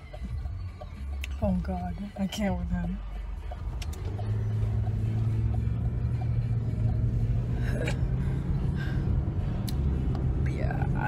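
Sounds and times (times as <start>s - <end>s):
car engine hum: 0.0s - 11.0s
road rumble: 0.0s - 11.0s.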